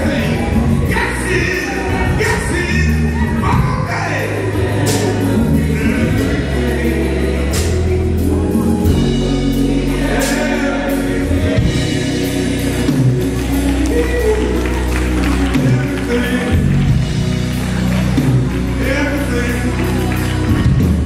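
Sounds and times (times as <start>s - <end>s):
choir singing with band: 0.0s - 21.0s
held bass notes: 0.0s - 21.0s.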